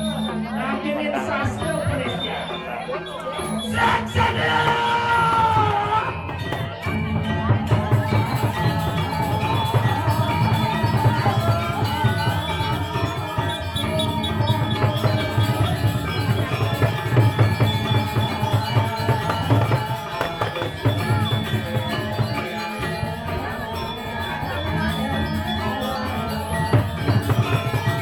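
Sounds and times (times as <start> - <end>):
metallophones ringing: 0.0 - 28.0
steady drumming: 3.7 - 28.0.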